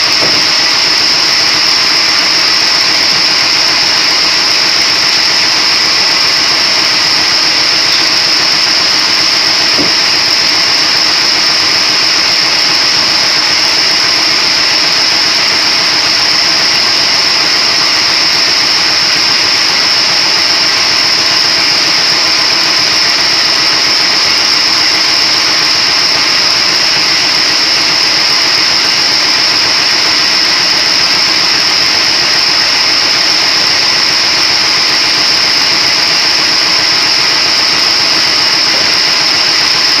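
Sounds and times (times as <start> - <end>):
splitting machine drone with whine: 0.0 - 40.0.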